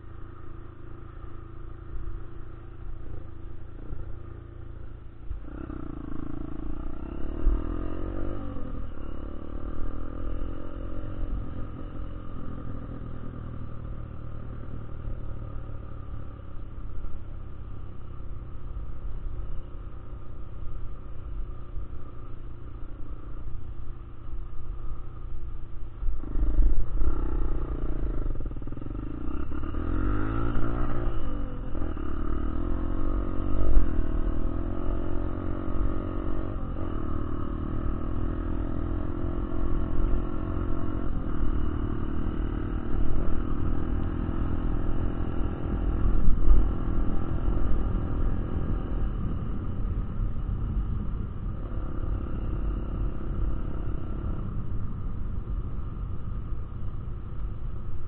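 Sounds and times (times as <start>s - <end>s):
motorcycle engine revving: 0.0s - 17.5s, 26.0s - 58.0s.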